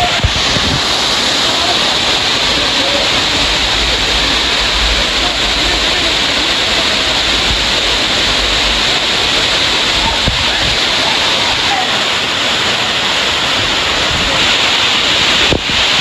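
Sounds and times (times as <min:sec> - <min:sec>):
waterfall rushing over rock: 0:00.0 - 0:16.0.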